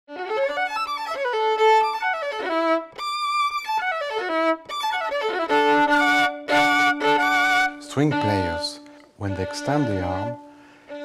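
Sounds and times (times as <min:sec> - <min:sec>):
solo violin: 0:00.1 - 0:11.0.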